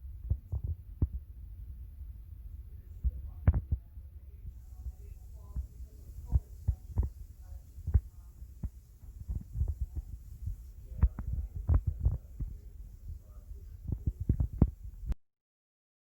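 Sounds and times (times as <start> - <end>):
low thumps and bumps: 0.0 - 15.2.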